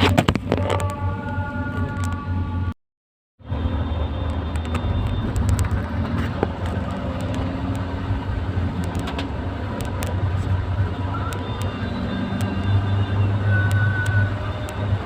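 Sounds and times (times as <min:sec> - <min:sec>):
road noise while driving: 0:00.0 - 0:02.8, 0:03.4 - 0:15.0
vehicle engine hum: 0:00.0 - 0:02.8, 0:03.4 - 0:15.0.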